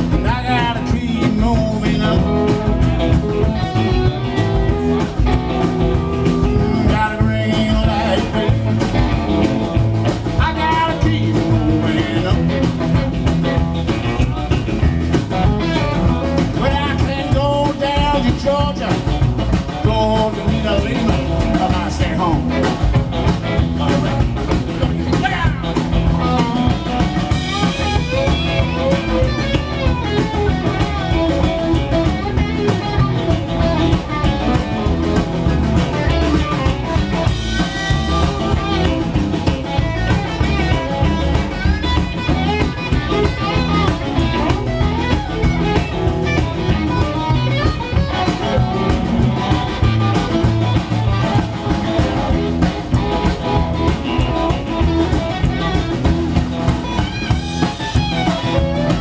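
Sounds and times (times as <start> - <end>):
live blues band playing: 0.0 - 59.0.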